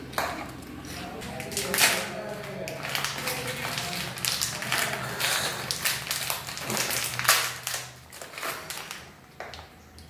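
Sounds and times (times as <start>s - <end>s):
sweet wrapper crinkling: 1.0s - 9.5s.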